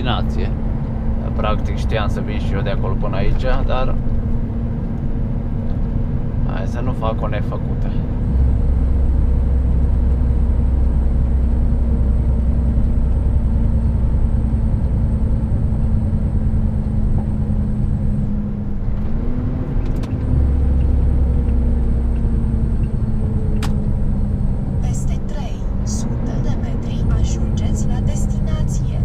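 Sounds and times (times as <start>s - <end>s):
road noise: 0.0s - 29.0s
truck diesel engine running: 0.0s - 29.0s.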